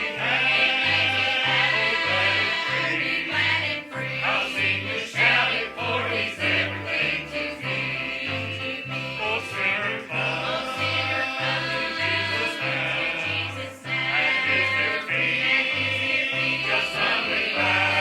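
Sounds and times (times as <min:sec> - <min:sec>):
choir singing gospel song: 0:00.0 - 0:18.0.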